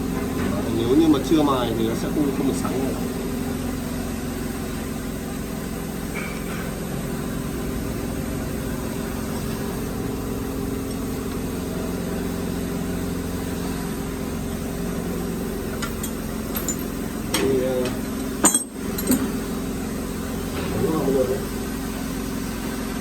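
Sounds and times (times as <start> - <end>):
workshop machinery humming: 0.0 - 23.0.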